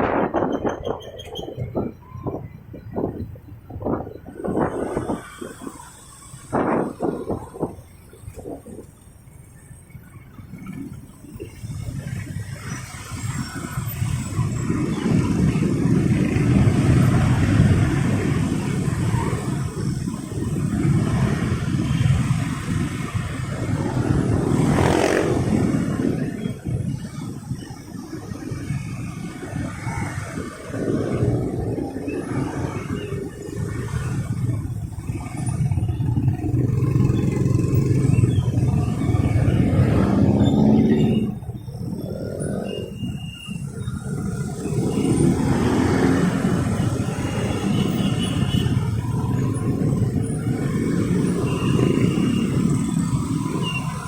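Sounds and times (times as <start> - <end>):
motorcycle engine rumble: 0.0 - 54.0
road traffic: 0.0 - 54.0.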